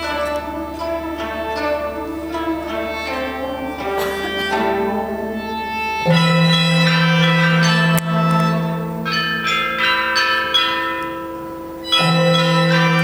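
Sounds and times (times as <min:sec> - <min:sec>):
plucked zithers: 0:00.0 - 0:13.0
sustained held tones: 0:00.0 - 0:13.0.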